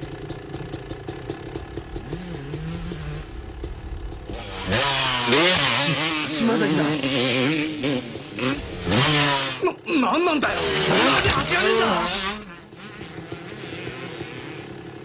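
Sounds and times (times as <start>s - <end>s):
dirt bike revving hard: 0.0s - 15.0s
steady engine note: 0.0s - 15.0s.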